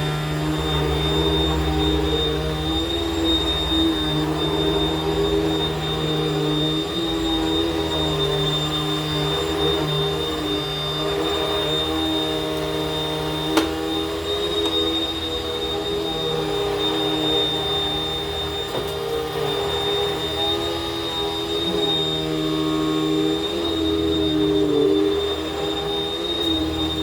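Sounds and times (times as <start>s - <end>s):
vacuum cleaner motor running: 0.0s - 27.0s.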